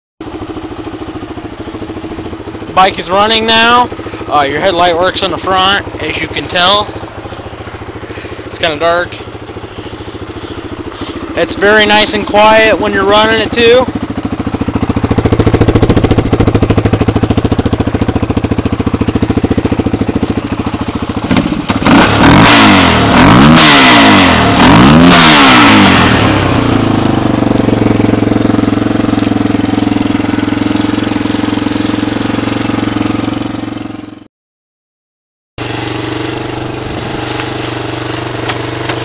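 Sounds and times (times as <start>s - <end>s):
motorcycle engine idling and revving: 0.2s - 34.3s, 35.6s - 39.0s.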